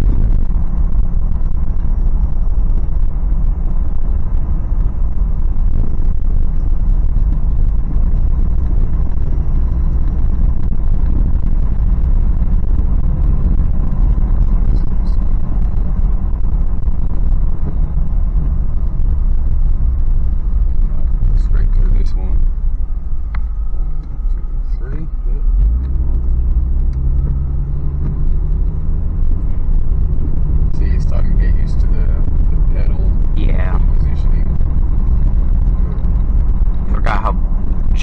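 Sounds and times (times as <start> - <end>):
car engine low rumble: 0.0 - 38.0
road noise: 0.0 - 38.0.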